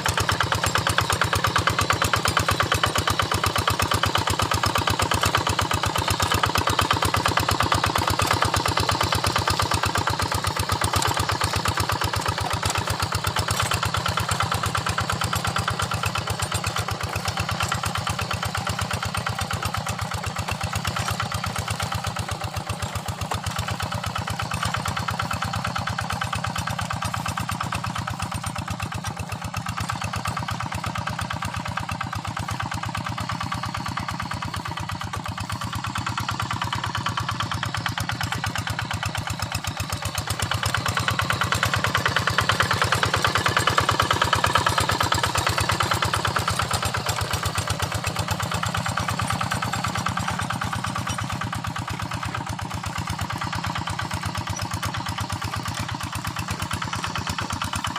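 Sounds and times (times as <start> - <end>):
hand tractor engine running: 0.0 - 57.9.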